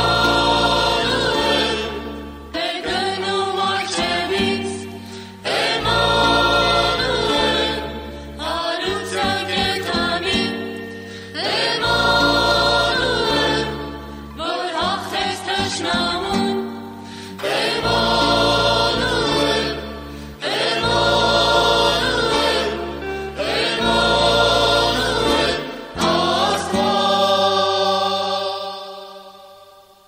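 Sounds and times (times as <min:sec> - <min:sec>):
choir singing a hymn: 0:00.0 - 0:30.0.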